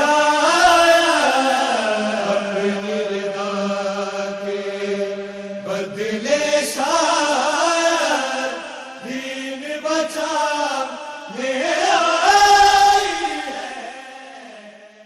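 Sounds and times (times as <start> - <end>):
person chanting a lament: 0.0 - 15.0.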